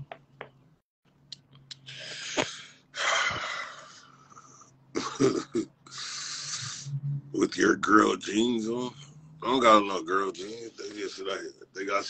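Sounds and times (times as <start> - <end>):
faint steady hum: 1.2 - 12.0.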